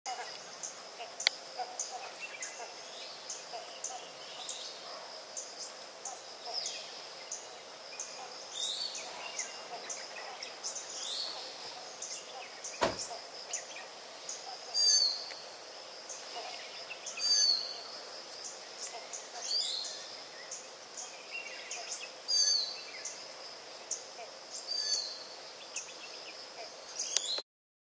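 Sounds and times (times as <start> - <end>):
high insect drone: 0.1 - 27.4
small birds chirping: 0.1 - 27.4.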